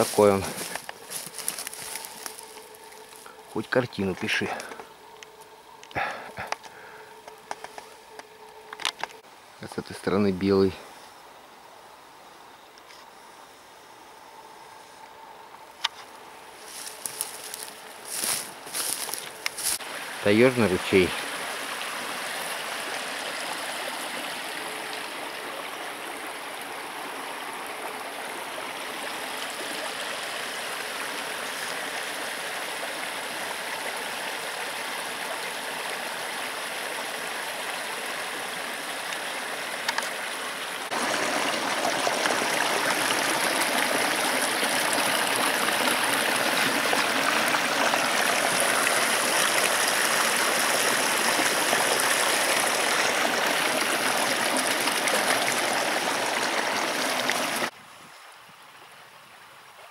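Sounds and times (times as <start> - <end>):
stream flowing: 0.0 - 12.6, 14.1 - 59.9.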